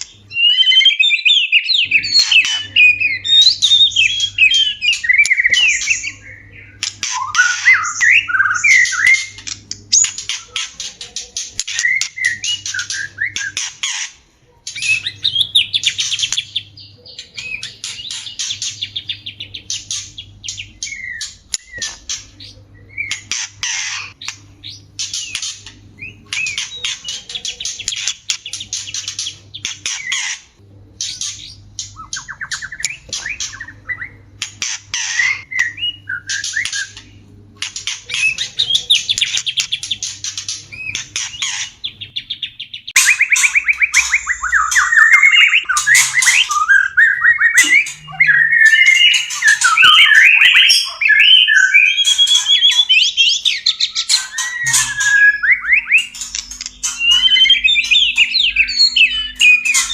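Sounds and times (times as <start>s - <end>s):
bird chatter and whistled trills: 0.0s - 59.9s.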